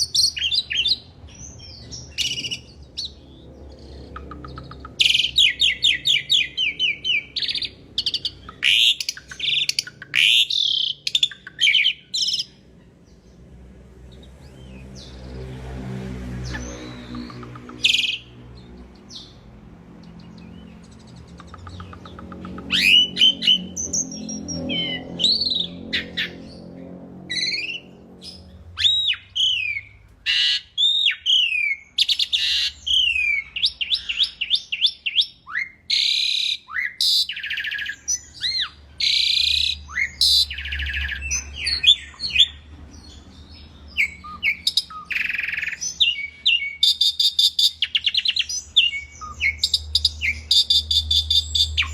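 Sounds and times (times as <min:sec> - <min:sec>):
starling singing: 0:00.0 - 0:13.0, 0:16.4 - 0:19.4, 0:20.1 - 0:26.5, 0:27.3 - 0:51.9
low engine-like hum: 0:00.0 - 0:34.8, 0:37.3 - 0:46.8, 0:47.8 - 0:51.9.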